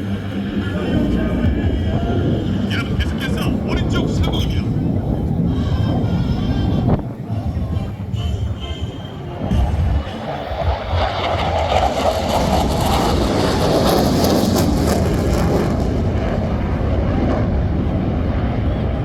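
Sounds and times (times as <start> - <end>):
jet engines flying past: 0.0 - 19.0.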